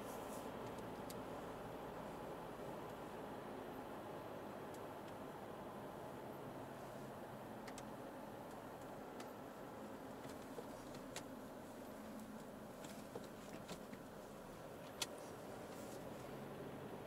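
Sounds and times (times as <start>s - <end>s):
diesel engine drone in car cabin: 0.0s - 17.0s
road noise: 0.0s - 17.0s.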